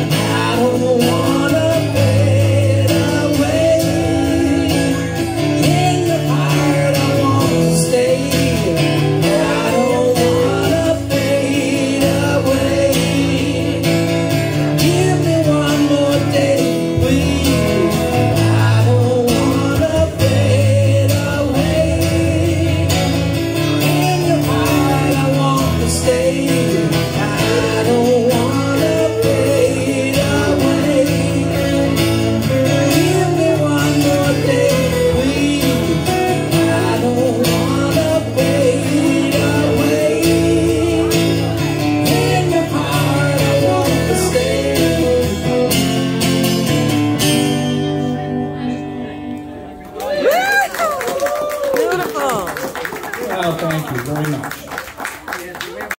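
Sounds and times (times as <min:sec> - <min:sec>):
man singing: 0:00.0 - 0:49.2
acoustic guitar strumming: 0:00.0 - 0:50.0
electric guitar: 0:00.0 - 0:55.9.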